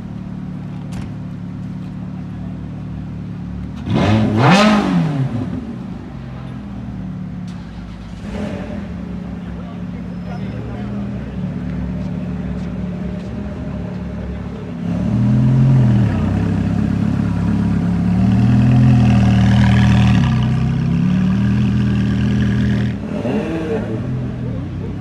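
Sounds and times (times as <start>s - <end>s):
car engine running and revving: 0.0s - 25.0s.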